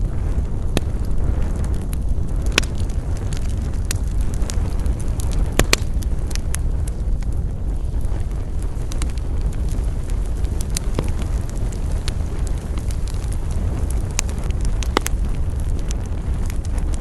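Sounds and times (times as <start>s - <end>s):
campfire flames rumbling: 0.0s - 17.0s
fire crackles and pops: 0.0s - 17.0s.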